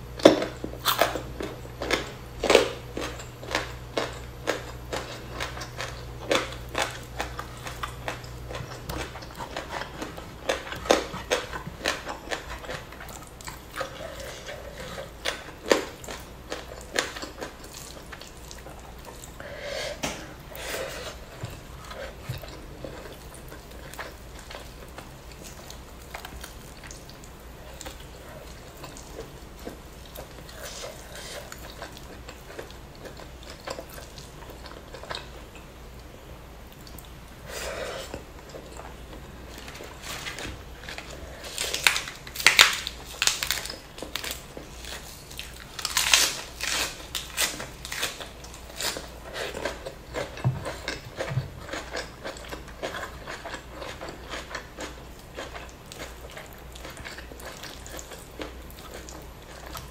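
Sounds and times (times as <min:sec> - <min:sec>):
close chewing mouth sounds: 0:00.2 - 0:19.5, 0:20.4 - 0:36.0, 0:36.6 - 0:59.9.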